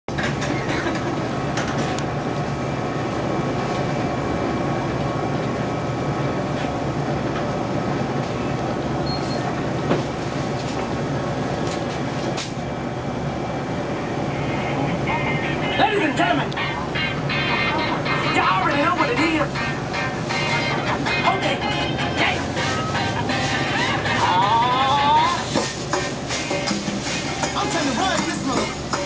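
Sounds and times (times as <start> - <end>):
refrigeration hum and hiss: 0.1 - 29.0.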